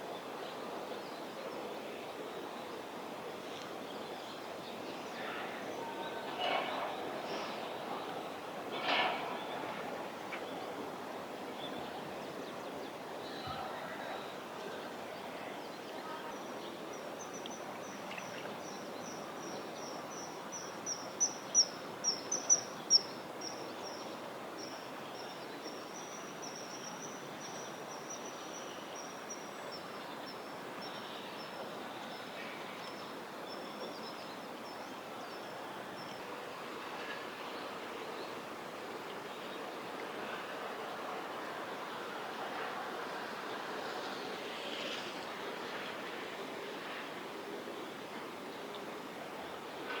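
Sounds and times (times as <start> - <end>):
steady background hiss: 0.0 - 50.0.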